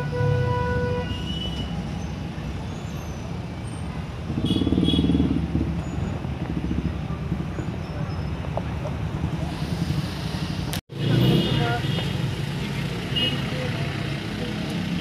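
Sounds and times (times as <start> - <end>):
street traffic rumbling: 0.0 - 15.0.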